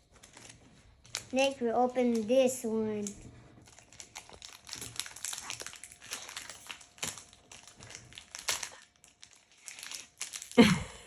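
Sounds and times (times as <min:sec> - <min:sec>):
foil wrapper crinkling: 0:00.0 - 0:10.7.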